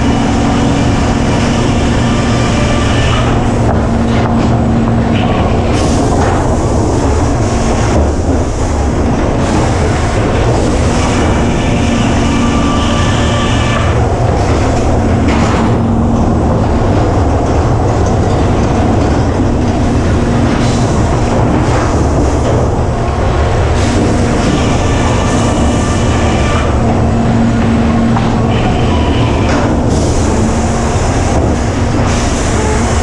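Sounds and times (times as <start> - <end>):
high machine whine: 0.0 - 33.0
sawmill machinery running: 0.0 - 33.0.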